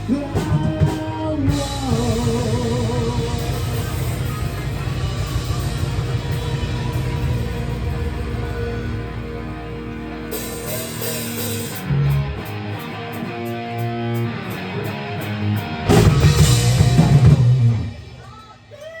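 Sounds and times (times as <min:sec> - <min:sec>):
steady cymbal beat: 0:00.0 - 0:18.8
rock band playing: 0:00.0 - 0:19.0.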